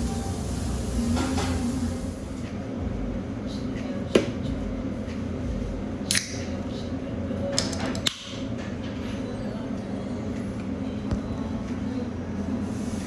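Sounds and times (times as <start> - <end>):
low indoor hum: 0.0 - 13.0.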